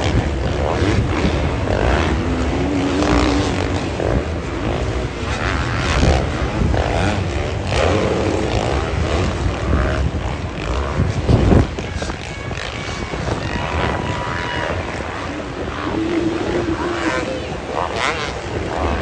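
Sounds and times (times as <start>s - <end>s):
dirt bike engines revving: 0.0s - 19.0s
steady engine rumble: 0.0s - 19.0s.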